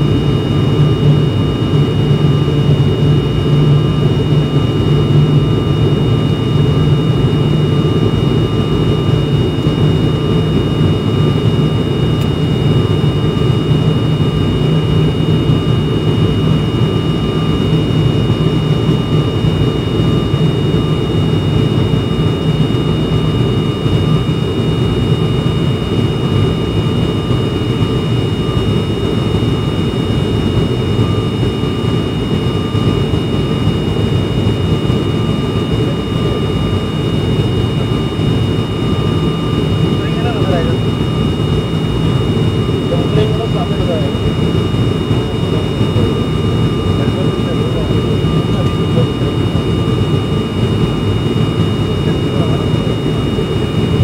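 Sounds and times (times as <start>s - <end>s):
propeller engine drone in cabin: 0.0s - 54.0s
thin high whine: 0.0s - 54.0s.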